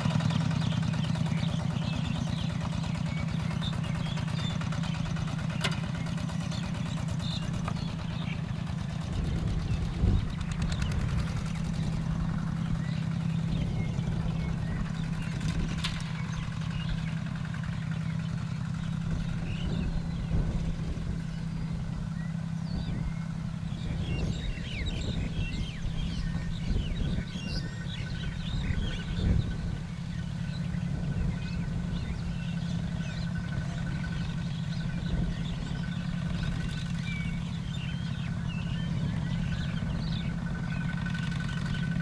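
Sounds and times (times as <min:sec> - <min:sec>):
small birds chirping: 0:00.0 - 0:42.0
walking tractor engine running: 0:00.0 - 0:42.0.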